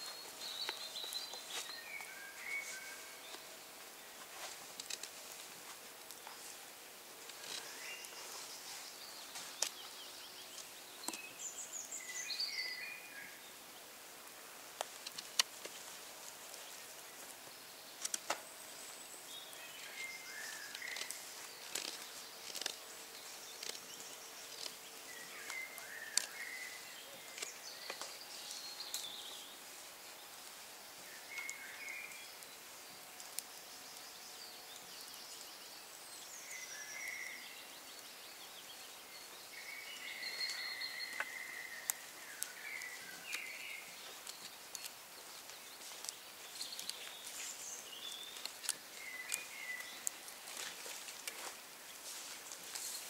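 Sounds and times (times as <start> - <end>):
birds singing: 0.0 - 53.0.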